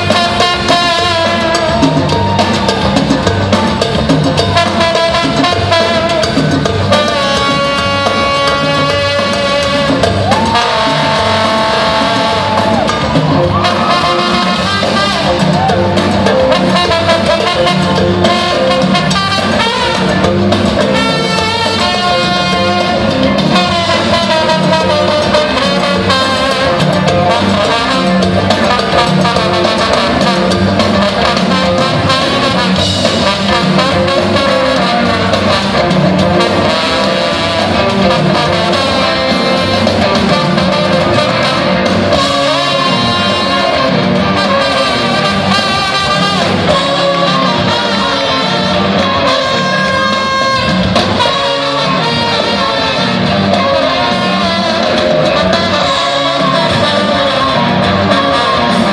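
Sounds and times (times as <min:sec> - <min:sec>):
bass and drums: 0:00.0 - 0:58.9
electric guitars: 0:00.0 - 0:58.9
lead guitar melody: 0:00.0 - 0:58.9.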